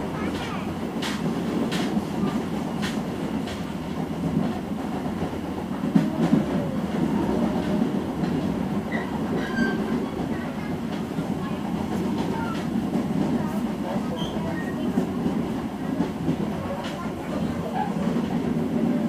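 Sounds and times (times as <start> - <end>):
train coach rumbling on track: 0.0 - 19.0.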